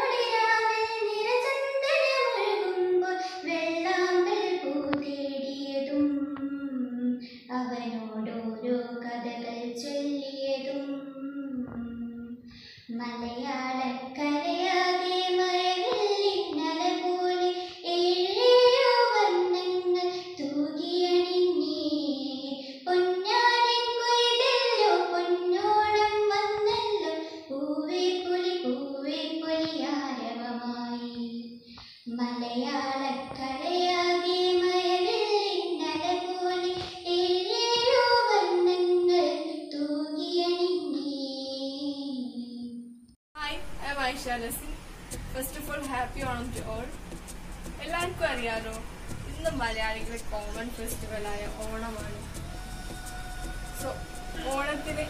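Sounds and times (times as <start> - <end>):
girl singing: 0.0 - 47.0, 47.8 - 55.0.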